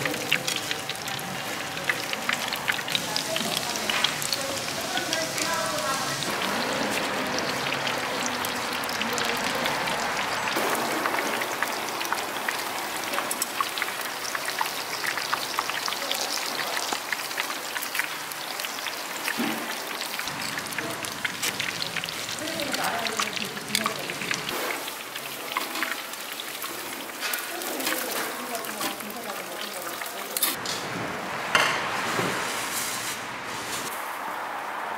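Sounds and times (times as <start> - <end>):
hot oil sizzling in a deep fryer: 0.0 - 30.6.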